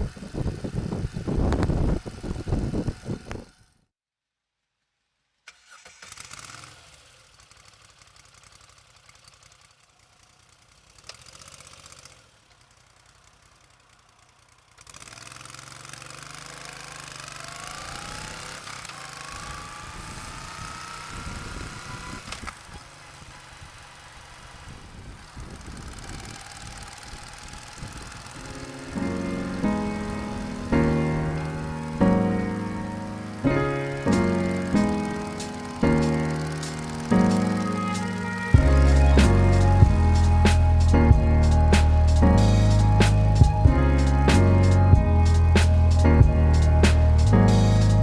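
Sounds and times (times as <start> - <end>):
motorcycle engine accelerating: 0.0 - 3.8, 6.1 - 48.0.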